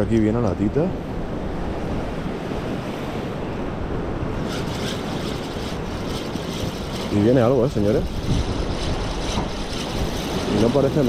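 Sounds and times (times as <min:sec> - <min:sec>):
wind buffeting microphone: 0:00.0 - 0:11.0
sea surf washing on shore: 0:00.8 - 0:11.0.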